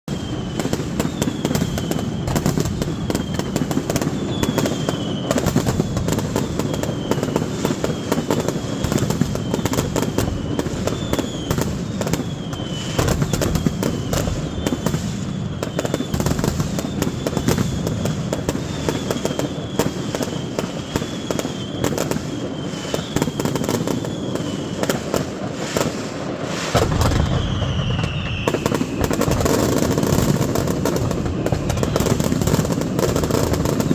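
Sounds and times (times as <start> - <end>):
fireworks crackling and banging: 0.0 - 33.9
whistles falling in pitch: 0.1 - 25.0, 26.8 - 30.2.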